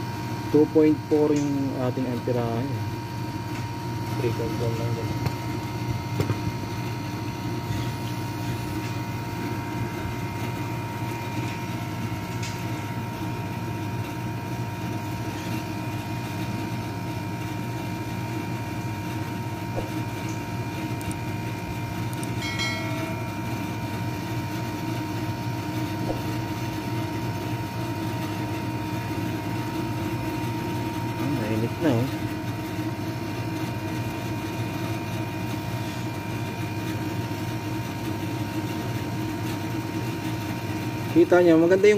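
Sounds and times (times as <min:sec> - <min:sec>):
air conditioner unit humming: 0:00.0 - 0:41.9.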